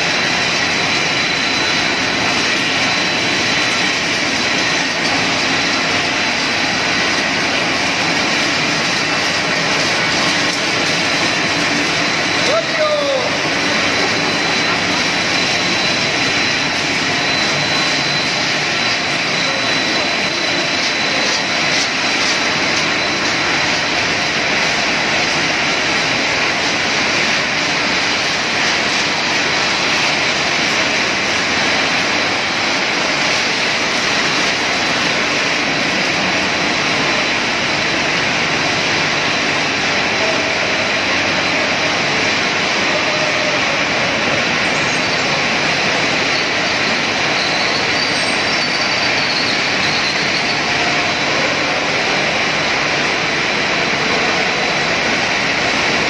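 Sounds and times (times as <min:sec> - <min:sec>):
factory machinery roaring: 0:00.0 - 0:56.0
high-pitched machine whine: 0:00.0 - 0:56.0.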